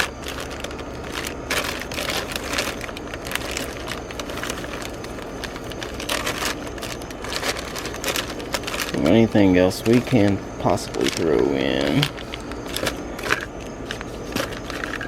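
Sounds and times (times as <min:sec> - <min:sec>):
low steady hum: 0:00.0 - 0:15.0
plastic packs rustling and clicking: 0:00.0 - 0:15.0.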